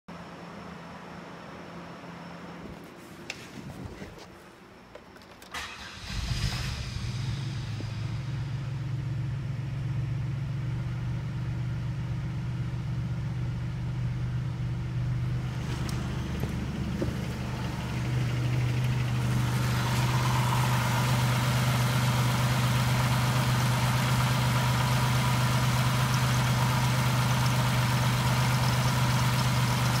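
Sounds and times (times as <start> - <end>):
car engine starting and idling: 5.2 - 30.0.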